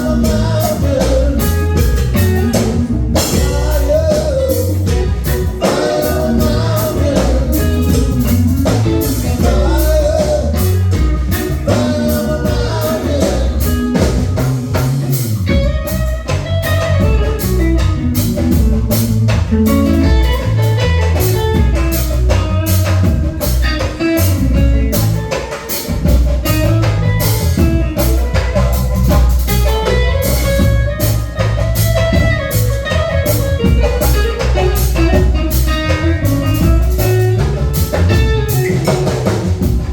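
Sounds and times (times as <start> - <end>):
bass: 0.0 - 39.9
drum kit beat: 0.0 - 39.9
guitar: 0.0 - 39.9.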